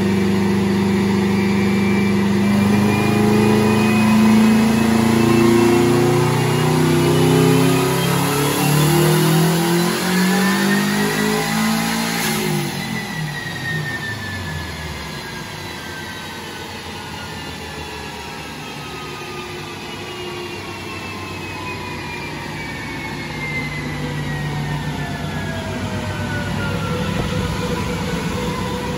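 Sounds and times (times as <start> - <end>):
car engine revving: 0.0 - 28.9
whine of rollers coasting: 0.0 - 28.9.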